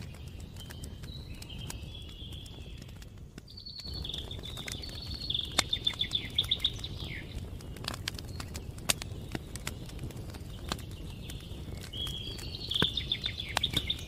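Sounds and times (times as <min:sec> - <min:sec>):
campfire crackling: 0:00.0 - 0:14.0
songbird singing: 0:00.0 - 0:14.0.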